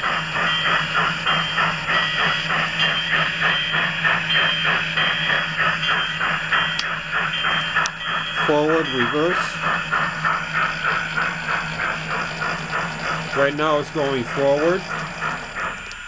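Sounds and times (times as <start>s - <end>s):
locomotive bell ringing: 0.0s - 16.0s
steam locomotive chuffing: 0.0s - 16.0s.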